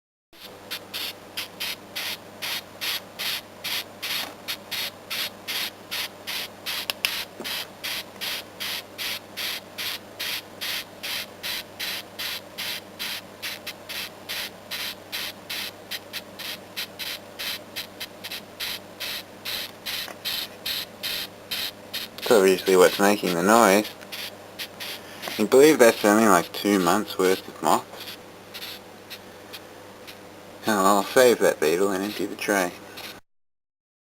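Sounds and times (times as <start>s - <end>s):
beetle stridulating: 0.4s - 33.2s.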